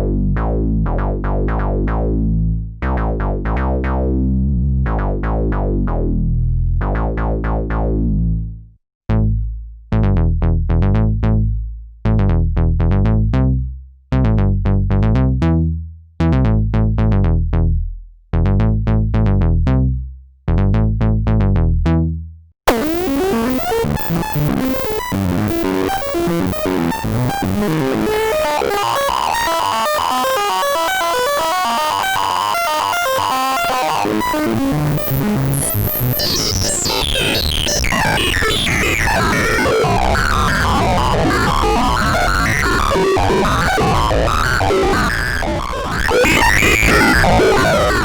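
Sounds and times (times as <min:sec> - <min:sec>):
synthesizer deep bass notes: 0:00.0 - 0:48.0.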